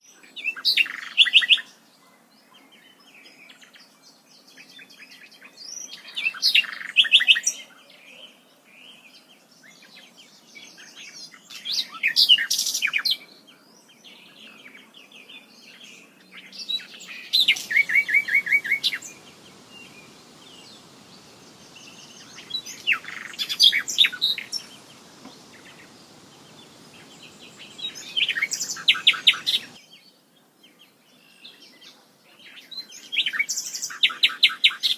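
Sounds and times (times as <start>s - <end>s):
bird singing trilled song: 0.0s - 1.8s, 2.7s - 34.9s
fainter birds calling: 0.0s - 29.9s
soft steady background hiss: 0.1s - 34.9s.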